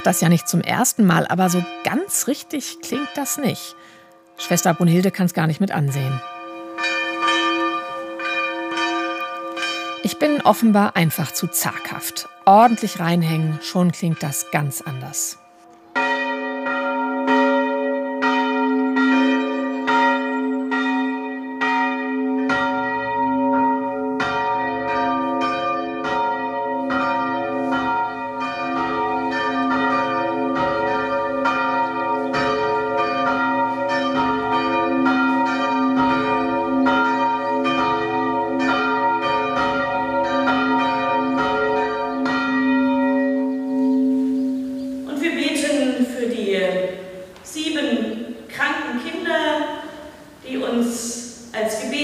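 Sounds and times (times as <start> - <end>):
deeper church bell: 0.0 - 45.8
church bell ringing: 0.0 - 47.4.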